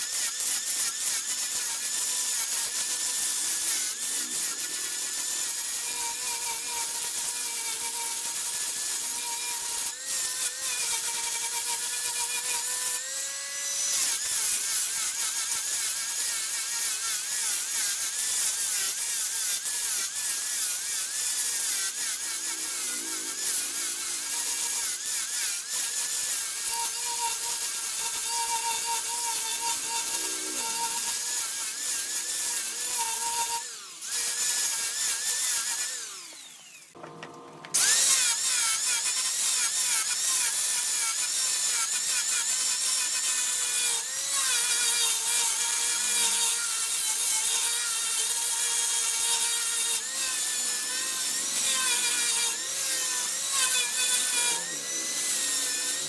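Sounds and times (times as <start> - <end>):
wood lathe cutting: 0.0 - 56.0.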